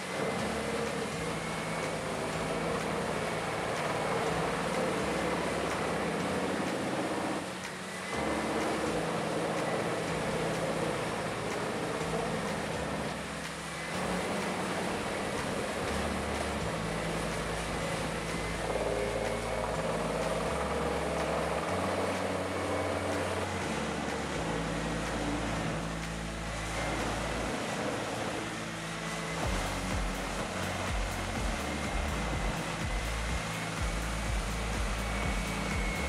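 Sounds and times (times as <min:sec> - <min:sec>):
background music of held low notes: 0:00.0 - 0:36.0
heavy wood-processing machinery running: 0:00.0 - 0:36.0.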